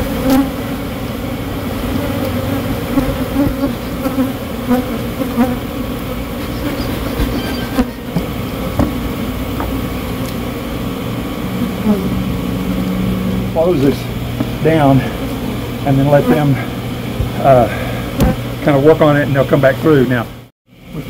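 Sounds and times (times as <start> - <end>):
bees buzzing: 0.0 - 18.8.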